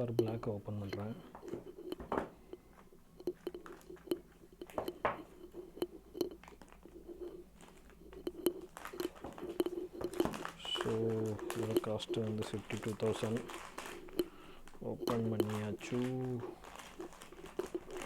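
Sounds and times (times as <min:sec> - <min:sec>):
packaging being handled: 0:00.0 - 0:18.0.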